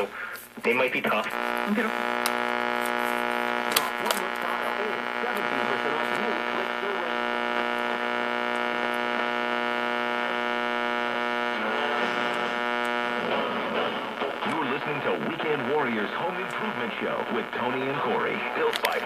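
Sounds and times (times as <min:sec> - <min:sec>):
radio crackles: 0:00.0 - 0:19.0
radio speaker buzzing hum: 0:00.0 - 0:19.0.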